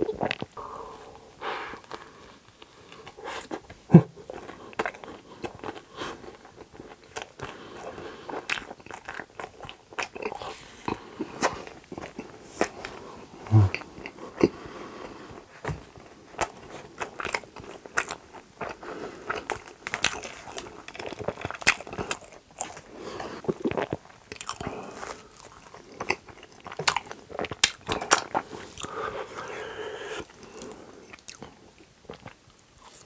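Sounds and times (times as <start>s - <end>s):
chewing and crunching waffle: 1.7s - 33.0s.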